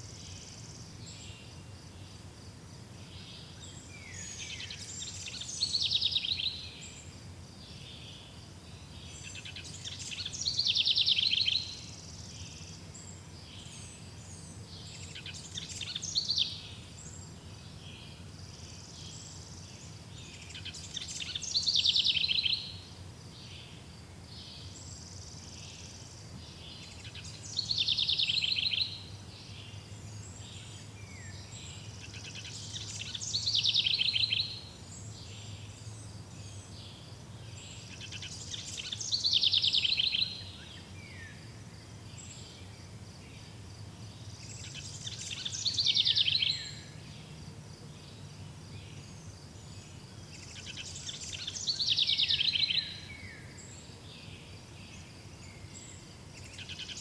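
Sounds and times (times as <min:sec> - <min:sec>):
faint high background hiss: 0:00.0 - 0:57.0
songbird singing with trill: 0:00.0 - 0:57.0.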